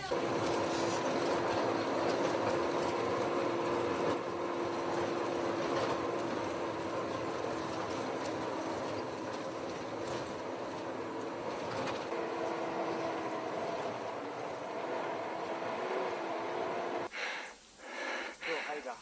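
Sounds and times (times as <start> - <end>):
constant whine: 0.0 - 17.1
vehicle driving on gravel: 0.0 - 17.1.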